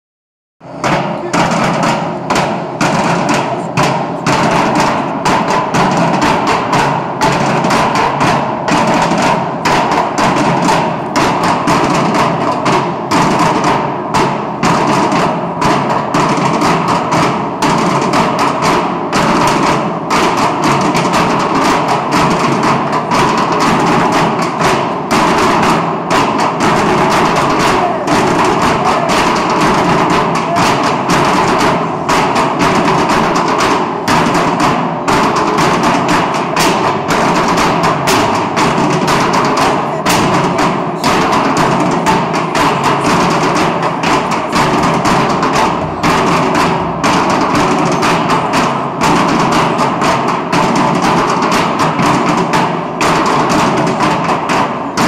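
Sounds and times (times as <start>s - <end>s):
drumming on steel drums: 0.6s - 55.0s.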